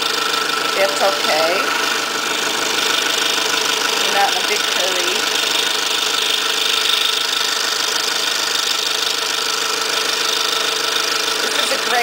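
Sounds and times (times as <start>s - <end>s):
scroll saw cutting plywood: 0.0s - 12.0s.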